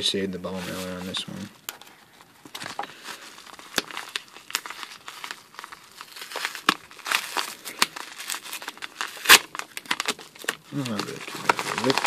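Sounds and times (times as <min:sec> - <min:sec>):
paper mailer crinkling: 0:00.4 - 0:12.0.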